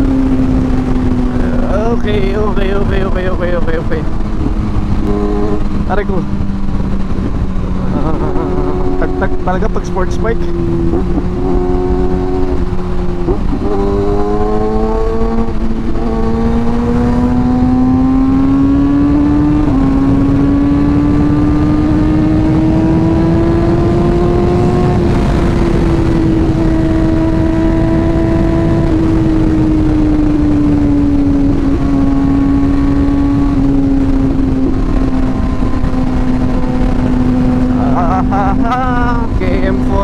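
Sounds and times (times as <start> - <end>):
motorcycle engine cruising: 0.0 - 40.0
wind rushing over microphone: 0.0 - 40.0.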